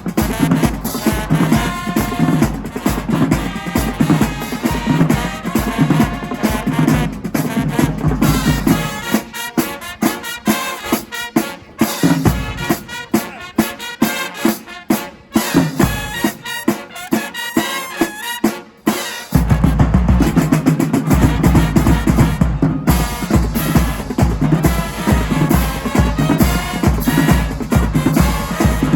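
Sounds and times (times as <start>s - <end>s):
marching band playing: 0.0s - 28.9s
snare and bass drums: 0.0s - 28.9s.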